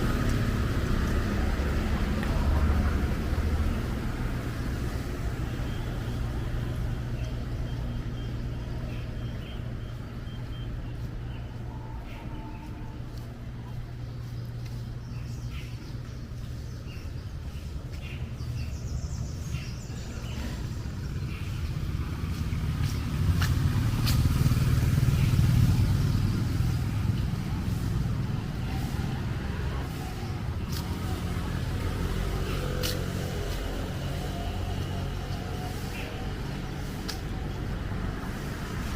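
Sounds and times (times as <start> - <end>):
vehicle engine rumble passing: 0.0 - 38.9.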